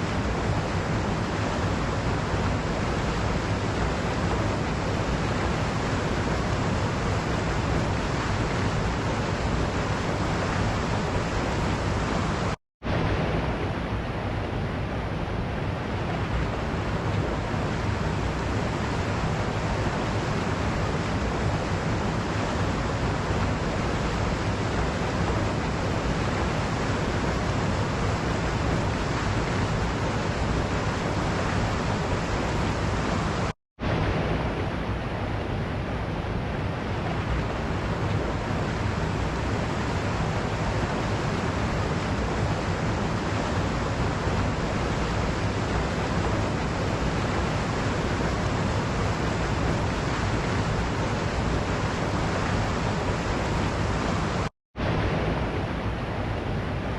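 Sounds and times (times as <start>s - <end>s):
waterfall rushing: 0.0s - 14.3s, 15.5s - 35.8s, 36.6s - 56.8s.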